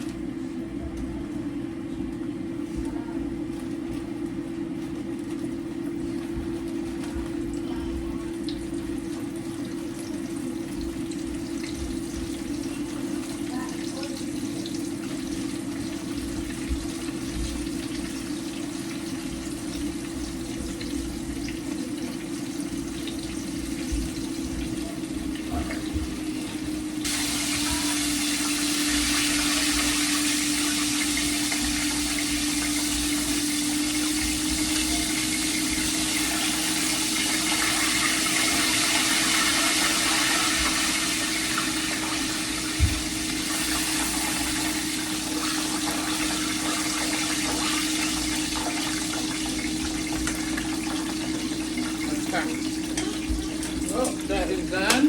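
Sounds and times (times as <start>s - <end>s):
chicken frying in oil: 2.1s - 55.0s.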